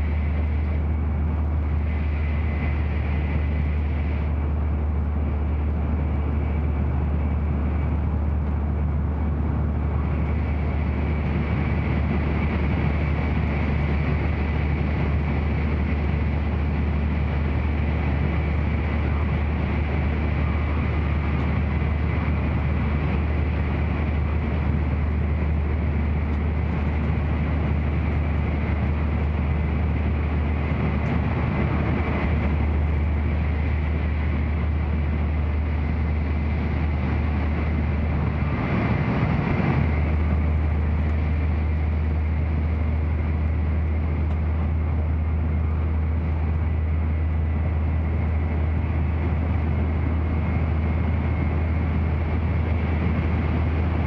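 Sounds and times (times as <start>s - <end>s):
train cabin rumble and rushing: 0.0s - 54.0s.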